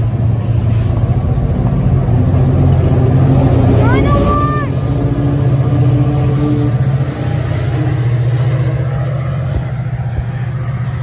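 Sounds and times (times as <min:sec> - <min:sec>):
train pulling out: 0:00.0 - 0:11.0.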